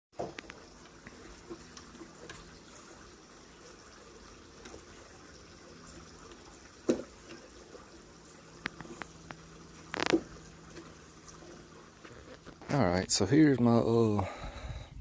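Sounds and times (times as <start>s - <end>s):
faint water trickle: 0.2s - 15.0s.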